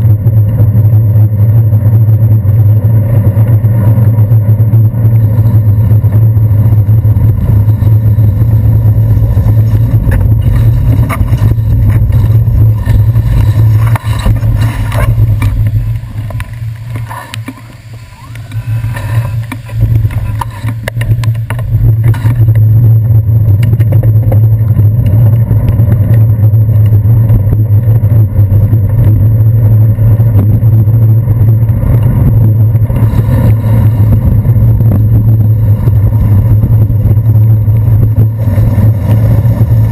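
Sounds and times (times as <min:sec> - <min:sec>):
traffic: 0:00.0 - 0:39.9
wind and road rumble: 0:00.0 - 0:39.9.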